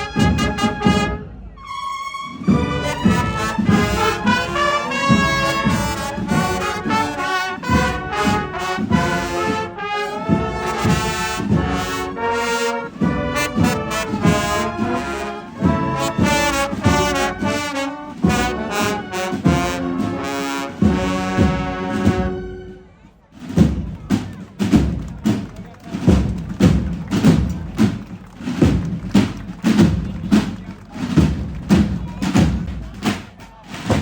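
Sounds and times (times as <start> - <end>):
steady drum beat: 0.0 - 1.2, 2.4 - 22.7, 23.4 - 34.0
brass band playing a march: 0.0 - 34.0.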